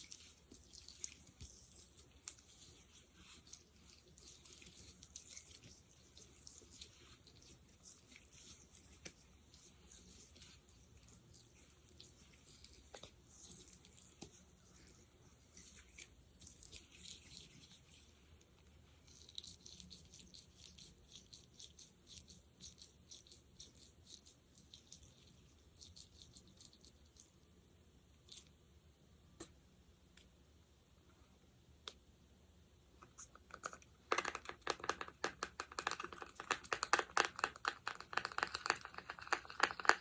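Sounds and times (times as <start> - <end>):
fingers squishing sticky jelly: 0.0 - 27.4, 33.2 - 40.0.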